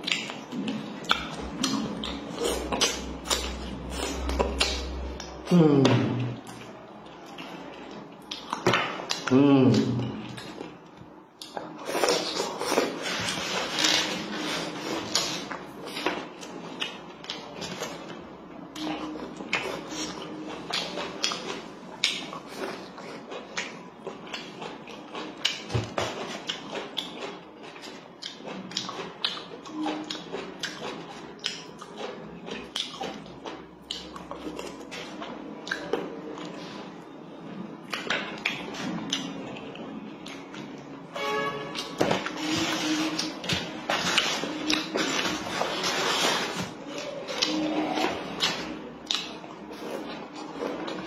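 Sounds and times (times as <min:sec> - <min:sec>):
chewing and wet mouth noises: 0:00.0 - 0:05.6, 0:06.2 - 0:37.0, 0:37.8 - 0:41.0, 0:41.7 - 0:51.0.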